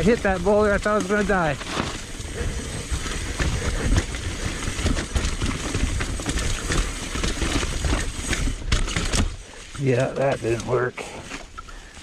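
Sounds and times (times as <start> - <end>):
bike rattling over rocks: 0.0 - 12.0.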